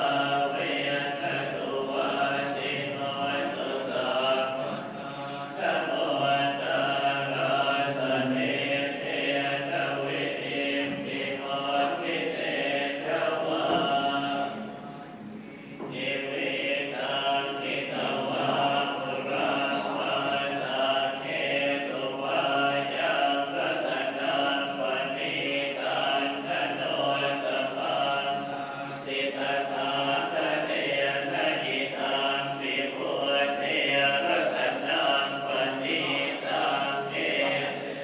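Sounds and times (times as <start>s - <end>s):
voices chanting in unison: 0.0s - 14.7s, 15.8s - 38.0s.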